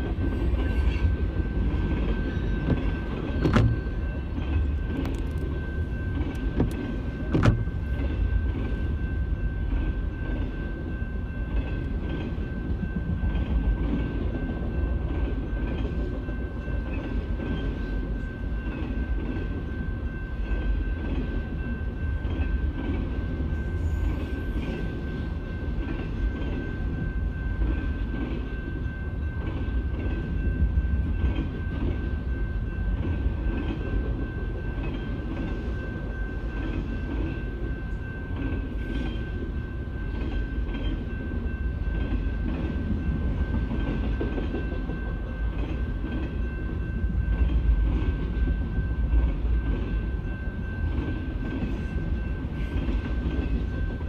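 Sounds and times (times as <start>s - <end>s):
freight train rumble and wheel clatter: 0.0s - 54.0s.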